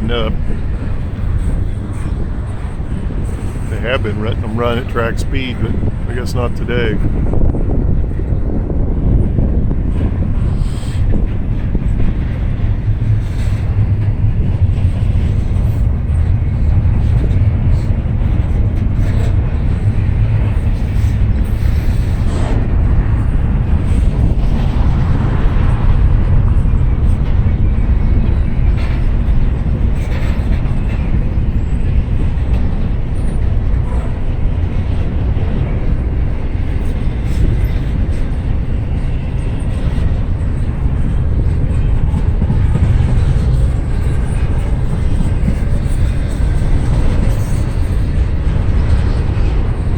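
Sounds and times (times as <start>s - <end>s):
freight train rumbling past: 0.0s - 49.9s
wind buffeting microphone: 0.0s - 49.9s.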